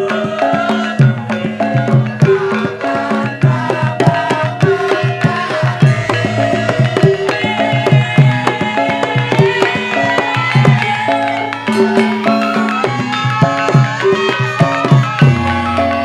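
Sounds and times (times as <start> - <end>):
hand drums beating: 0.0 - 16.0
metallophones playing held notes: 0.0 - 16.0.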